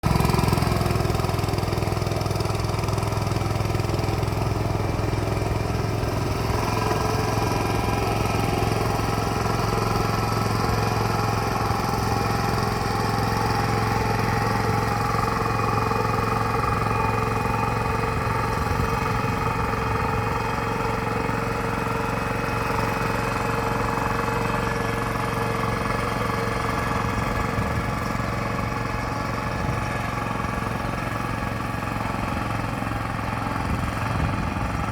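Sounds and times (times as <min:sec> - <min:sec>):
tractor engine running steadily: 0:00.0 - 0:34.9.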